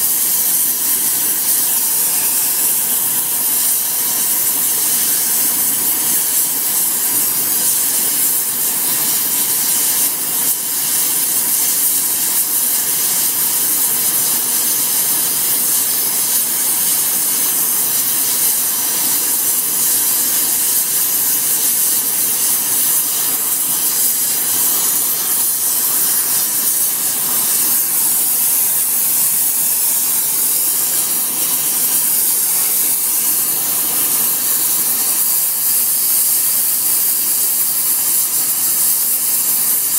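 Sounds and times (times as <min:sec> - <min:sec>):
gas torch flame hissing: 0:00.0 - 0:39.9.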